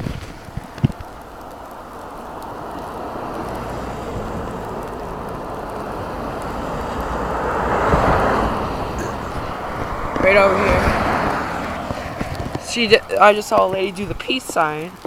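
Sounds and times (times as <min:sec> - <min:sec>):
car approaching on road: 0:00.0 - 0:15.0.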